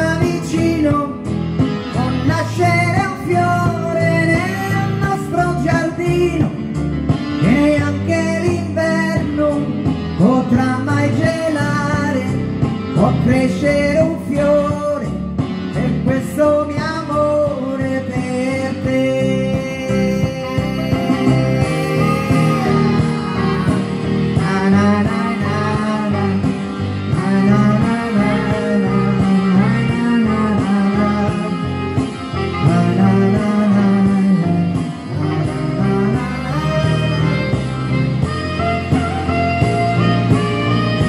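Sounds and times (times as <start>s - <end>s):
man singing into microphone: 0.0s - 37.6s
pop ballad backing track: 0.0s - 41.0s.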